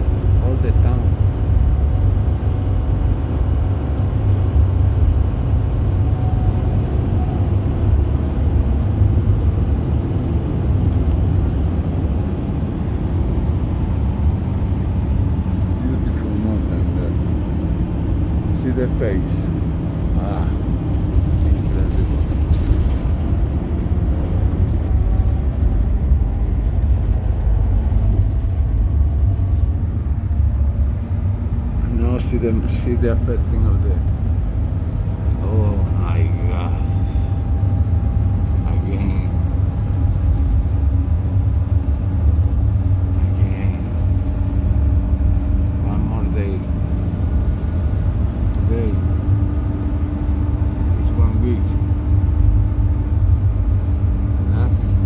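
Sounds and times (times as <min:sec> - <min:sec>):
bus engine rumble: 0:00.0 - 0:55.0
road noise: 0:00.0 - 0:55.0.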